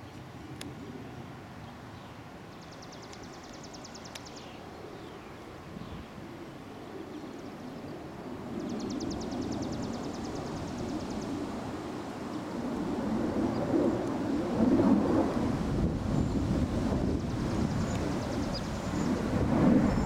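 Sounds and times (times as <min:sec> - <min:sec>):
distant jet engines rumbling: 0:00.0 - 0:20.0.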